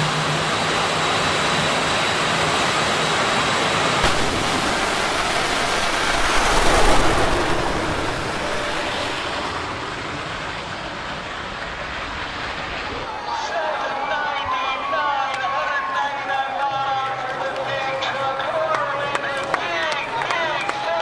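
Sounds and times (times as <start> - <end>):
jet turbine roar: 0.0 - 18.6.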